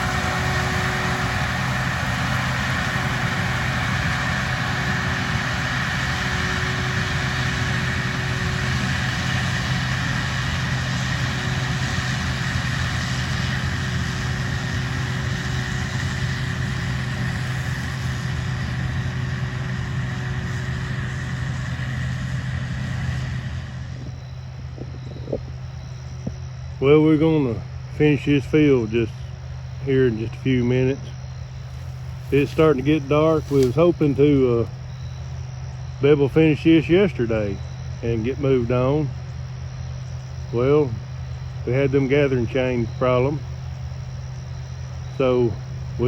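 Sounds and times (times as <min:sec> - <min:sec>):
combine harvester engine drone: 0:00.0 - 0:46.0.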